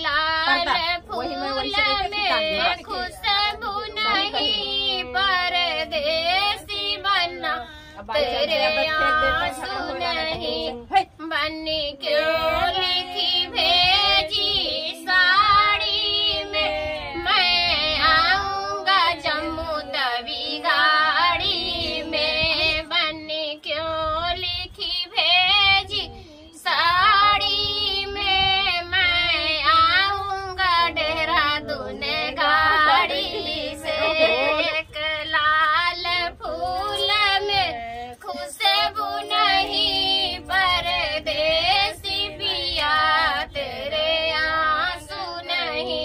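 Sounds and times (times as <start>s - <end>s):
woman singing folk song: 0.0s - 46.0s.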